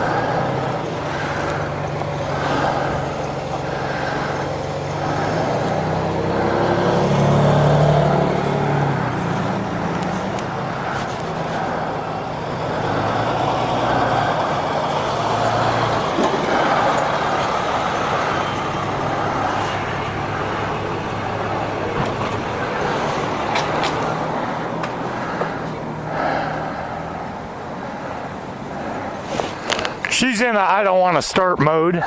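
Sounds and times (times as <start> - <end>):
motorcycle low mechanical hum: 0.0 - 30.2.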